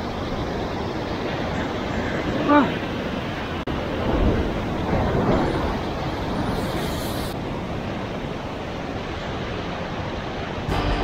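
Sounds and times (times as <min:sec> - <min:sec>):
wind on microphone: 0:00.0 - 0:10.3.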